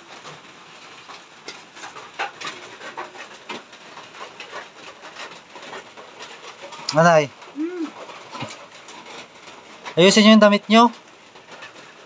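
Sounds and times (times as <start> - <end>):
rain on a corrugated roof: 0.0 - 12.0.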